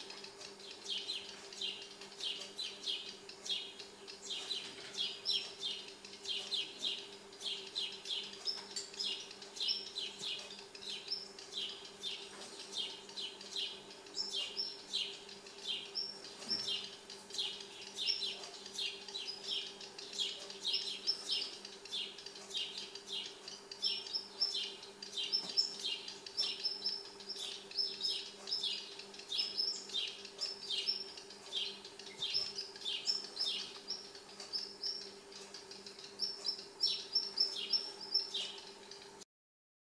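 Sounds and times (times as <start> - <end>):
small birds chirping: 0.0 - 39.2.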